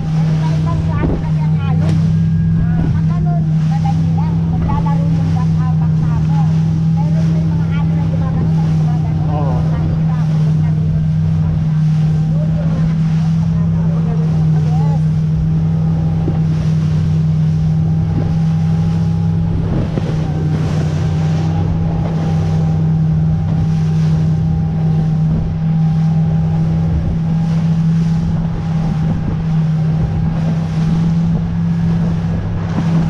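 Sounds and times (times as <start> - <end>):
motorboat engine droning: 0.0 - 33.0
water rushing past hull: 0.0 - 33.0
wind buffeting microphone: 0.0 - 33.0.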